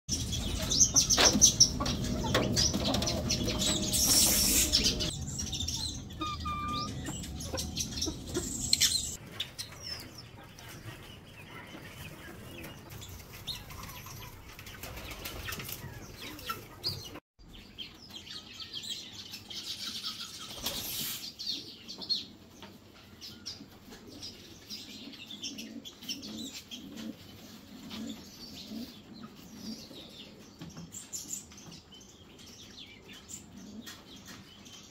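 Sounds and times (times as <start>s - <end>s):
caged birds chirping: 0.1s - 34.9s.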